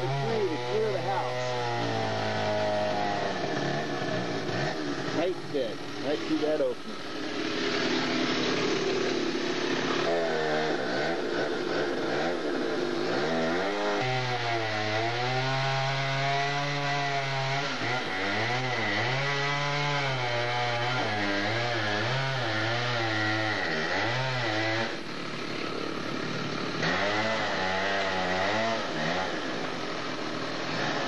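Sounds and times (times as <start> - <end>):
chainsaw cutting wood: 0.0 - 31.0.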